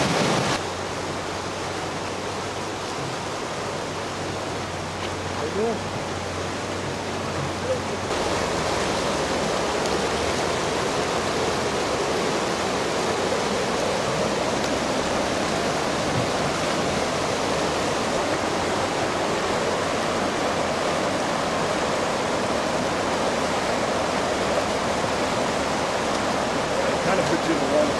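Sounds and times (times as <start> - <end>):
floodwater rushing and churning: 0.0 - 27.9.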